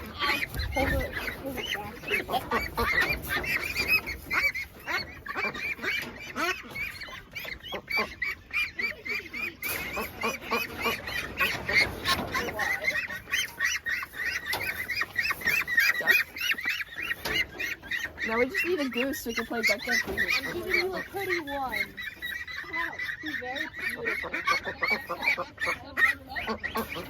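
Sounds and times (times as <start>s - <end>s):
flock of ducks calling: 0.0s - 27.0s.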